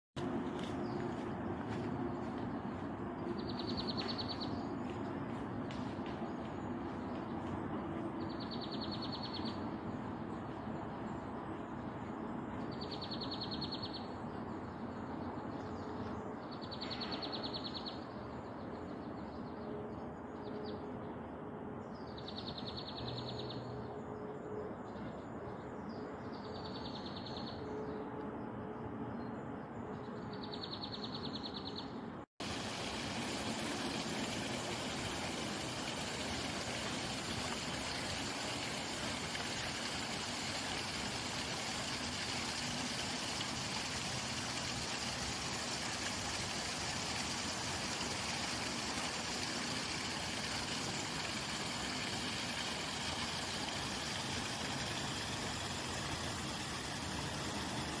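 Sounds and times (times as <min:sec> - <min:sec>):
rushing outdoor noise: 0:00.2 - 0:24.1, 0:30.5 - 0:58.0.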